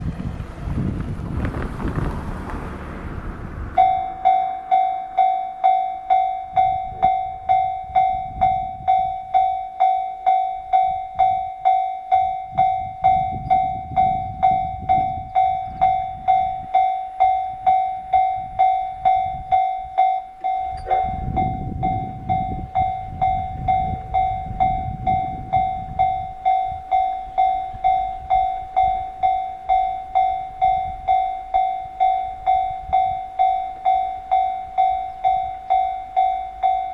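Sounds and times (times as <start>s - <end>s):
low rumble: 0.0s - 36.9s
level crossing warning bell ringing: 3.8s - 36.9s.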